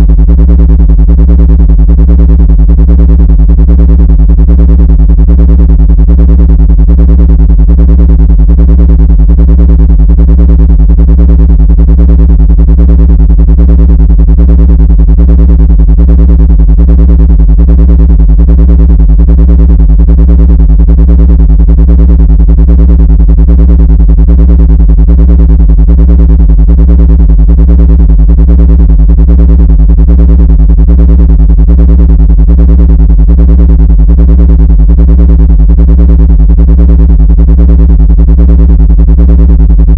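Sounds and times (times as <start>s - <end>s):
synthesized low buzzing drone: 0.0s - 39.9s.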